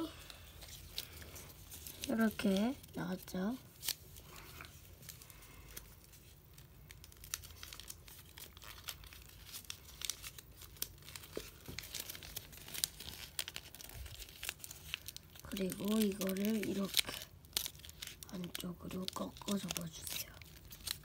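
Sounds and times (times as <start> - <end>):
paper crinkling and crackling: 0.0 - 21.0.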